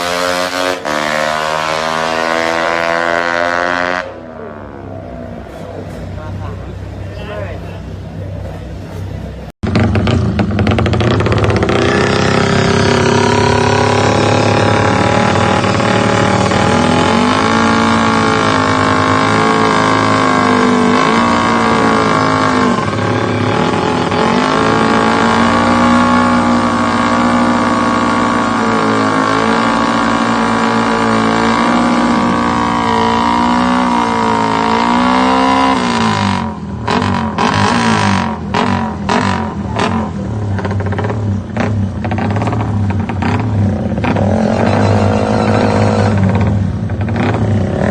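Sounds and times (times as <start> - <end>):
motorcycle engine revving: 0.0 - 7.6, 9.1 - 47.9.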